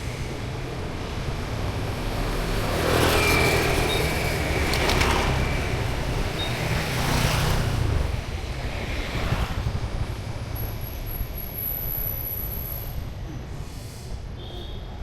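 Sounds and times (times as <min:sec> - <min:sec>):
steady traffic hum: 0:00.0 - 0:15.0.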